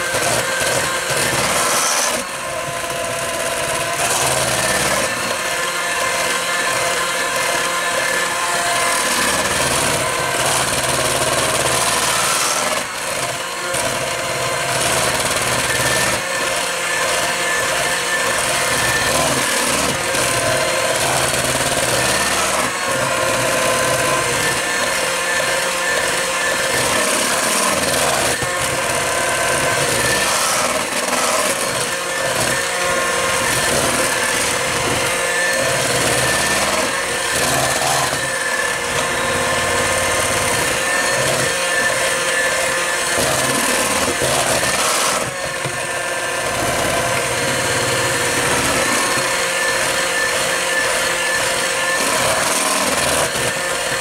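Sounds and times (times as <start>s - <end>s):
electric hand mixer running: 0.0s - 54.0s.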